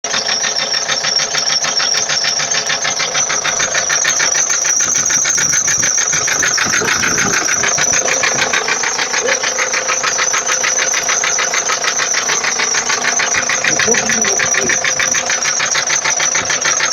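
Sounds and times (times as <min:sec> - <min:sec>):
diesel engine running: 0:00.0 - 0:16.9
engine knocking: 0:00.0 - 0:16.9.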